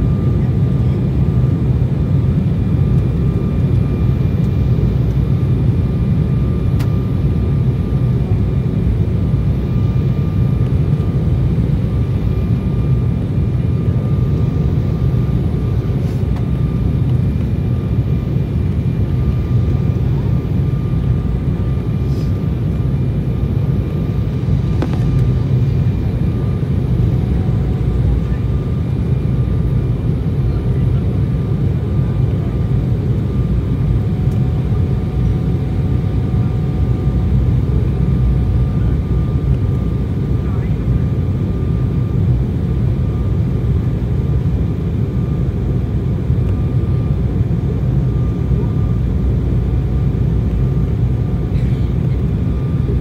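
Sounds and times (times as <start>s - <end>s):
aircraft cabin engine roar: 0.0s - 53.0s.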